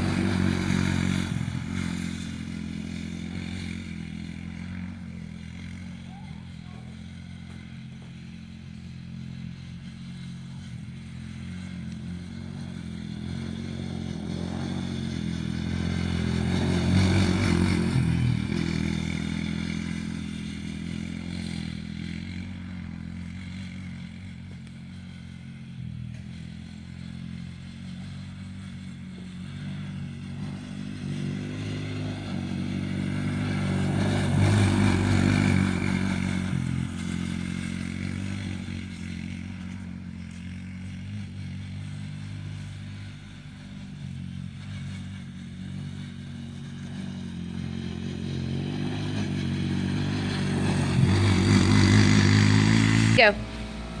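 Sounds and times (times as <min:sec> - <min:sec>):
small atv engine running: 0:00.0 - 0:54.0.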